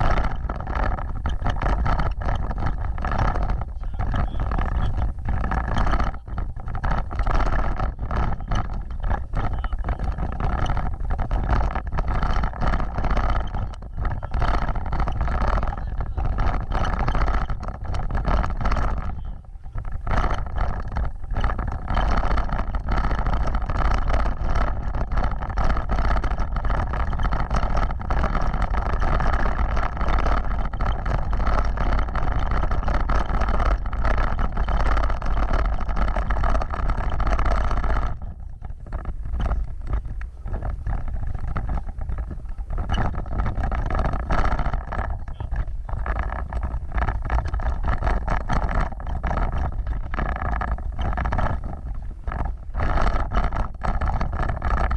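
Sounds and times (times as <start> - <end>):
off-road vehicle rumbling: 0.0 - 54.9
vehicle jolts and rattles: 0.0 - 54.9.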